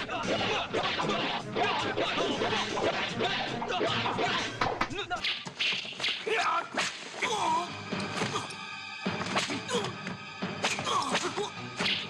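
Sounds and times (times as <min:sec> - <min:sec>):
fight soundtrack music: 0:00.0 - 0:12.0.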